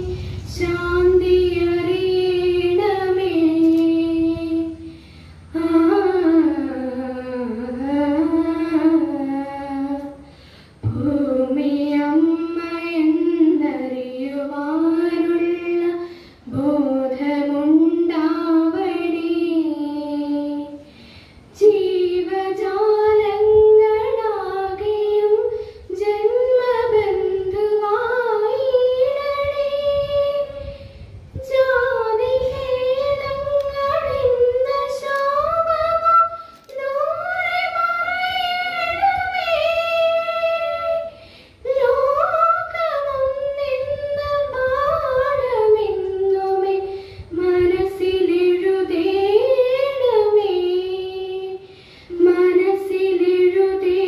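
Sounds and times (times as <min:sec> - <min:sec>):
woman singing: 0:00.0 - 0:20.9, 0:21.6 - 0:54.0.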